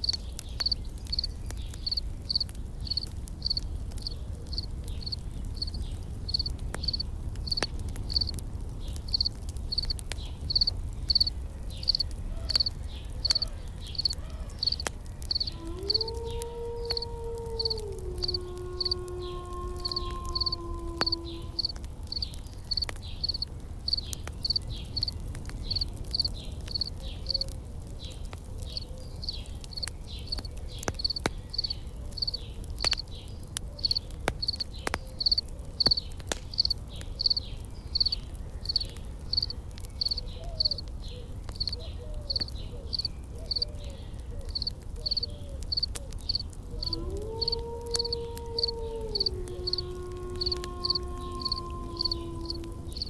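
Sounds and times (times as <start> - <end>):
insect chirping: 0.0 - 8.3, 9.1 - 12.0, 12.6 - 16.1, 16.9 - 19.0, 19.8 - 25.1, 25.7 - 27.5, 29.2 - 33.0, 33.8 - 34.6, 35.2 - 40.8, 41.6 - 43.7, 44.5 - 53.0
campfire crackles and pops: 0.0 - 53.0
low fire rumble: 0.0 - 53.0.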